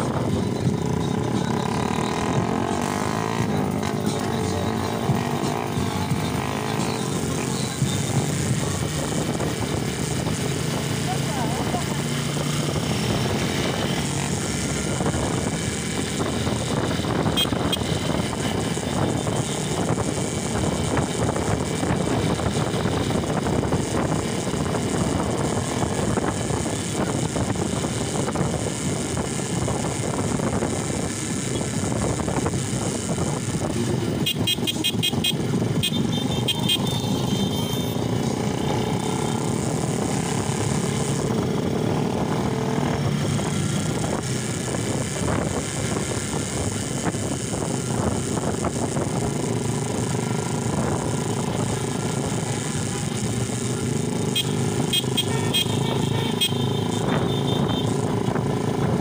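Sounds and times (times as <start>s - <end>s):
motorcycle engine and road noise: 0.0s - 59.0s.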